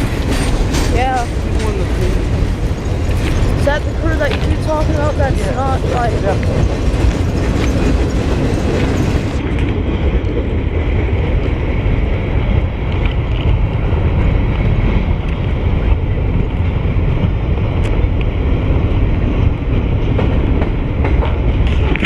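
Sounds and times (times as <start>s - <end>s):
freight train rumbling past: 0.0s - 22.0s
wind buffeting microphone: 0.0s - 22.0s.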